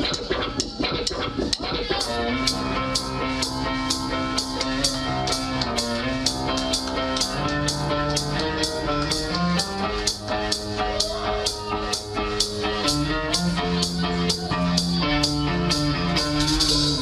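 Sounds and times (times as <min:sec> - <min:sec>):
drum kit steady beat: 0:00.0 - 0:17.0
electric guitar chords: 0:00.0 - 0:17.0.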